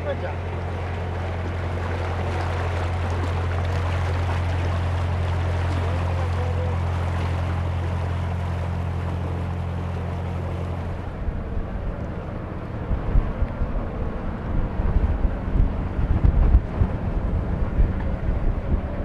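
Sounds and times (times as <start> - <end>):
diesel engine humming: 0.0 - 19.0
wind buffeting microphone: 0.0 - 19.0.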